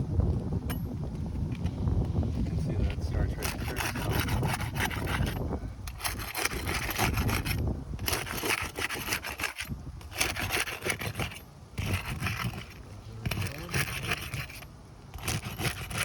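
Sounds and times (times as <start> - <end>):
flat bar scraping under shingles: 1.4 - 16.0.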